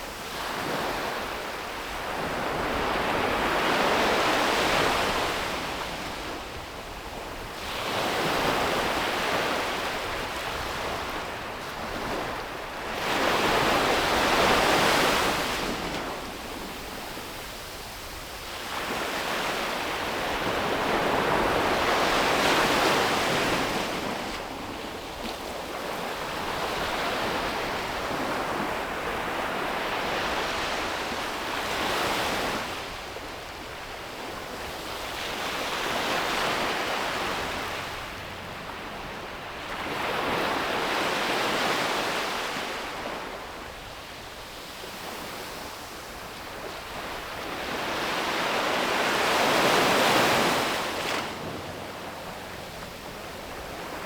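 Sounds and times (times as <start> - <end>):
sea waves breaking on beach: 7.4 - 54.0.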